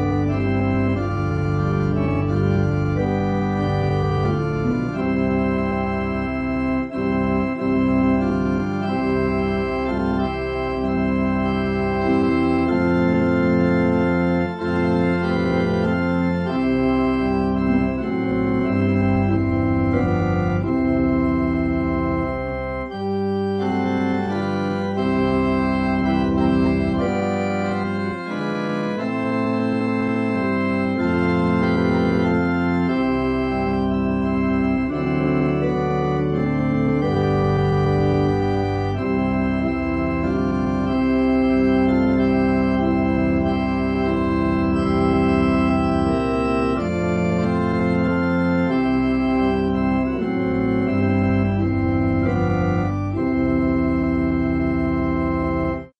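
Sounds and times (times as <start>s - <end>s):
organ playing hymn chords: 0.0s - 55.9s.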